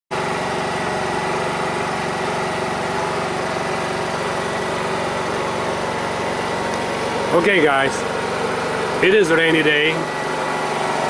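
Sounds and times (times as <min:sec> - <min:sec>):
generator running: 0:00.1 - 0:11.0.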